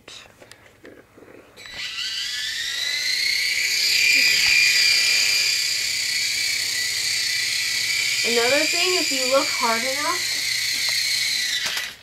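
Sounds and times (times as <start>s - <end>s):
toy helicopter rotors whining: 1.6s - 12.0s.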